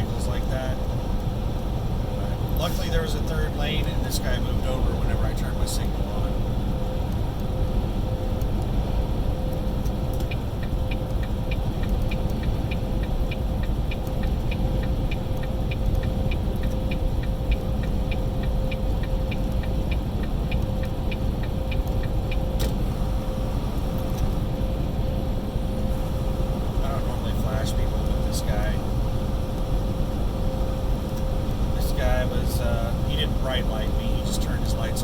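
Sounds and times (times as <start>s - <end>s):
truck engine and road noise: 0.0s - 35.0s.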